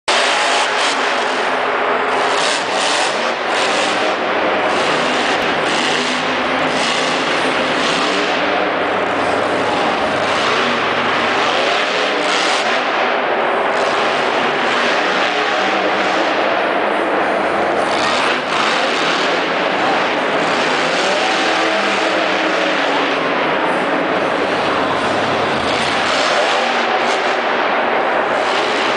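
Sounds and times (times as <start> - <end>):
dense wash of noise: 0.1 - 28.9
truck engine revving loudly: 0.1 - 28.9.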